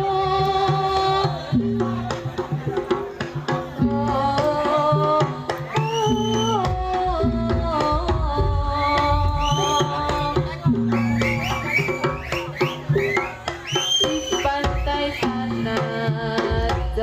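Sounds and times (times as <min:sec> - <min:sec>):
hand drums beating: 0:00.0 - 0:17.0.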